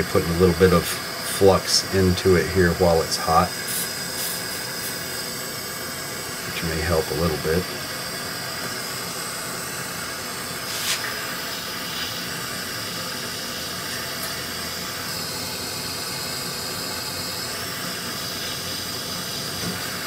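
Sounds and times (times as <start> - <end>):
gas torch flame hissing: 0.0 - 20.0.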